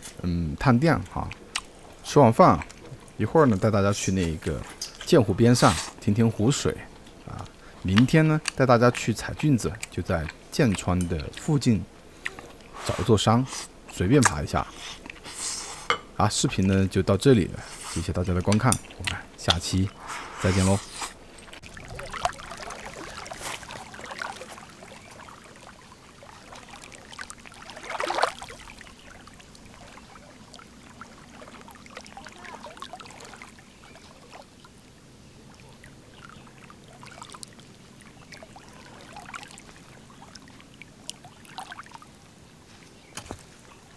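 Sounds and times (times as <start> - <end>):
lake waves lapping and splashing: 0.0 - 15.7, 16.3 - 43.9.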